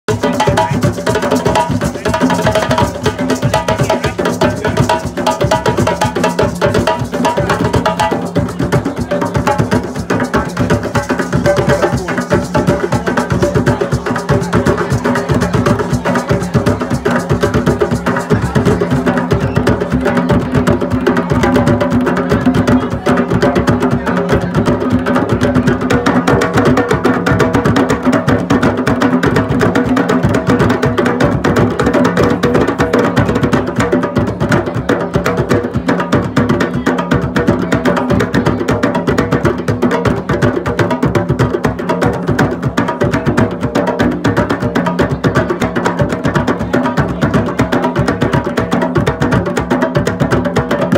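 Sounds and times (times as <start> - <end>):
hand drums playing together: 0.1 - 50.9.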